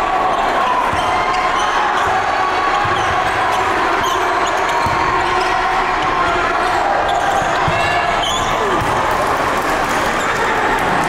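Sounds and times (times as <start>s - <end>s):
crowd noise in a gym: 0.0s - 11.0s.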